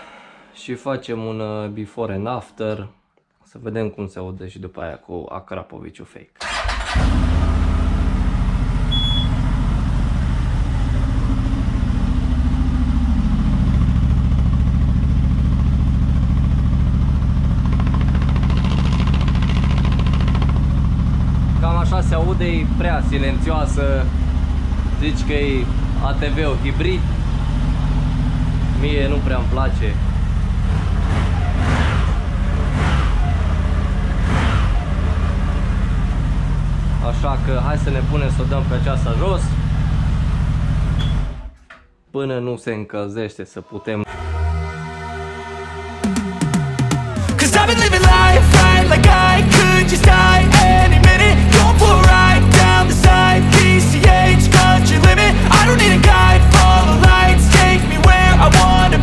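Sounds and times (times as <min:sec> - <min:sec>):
engine idling: 0:06.4 - 0:41.4, 0:46.6 - 0:59.0.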